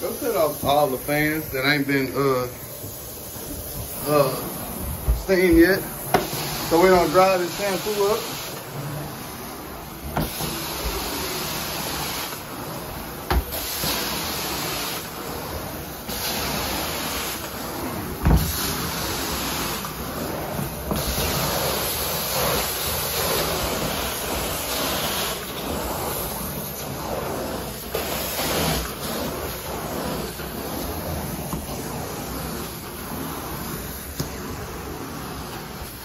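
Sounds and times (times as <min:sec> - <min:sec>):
extraction wand suction hiss: 0:00.0 - 0:36.0.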